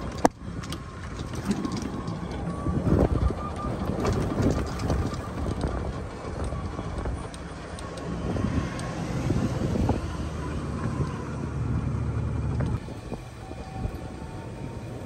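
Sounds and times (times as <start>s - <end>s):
wind on microphone: 0.0s - 11.9s, 12.5s - 15.0s
golf cart running rumble: 0.0s - 15.0s.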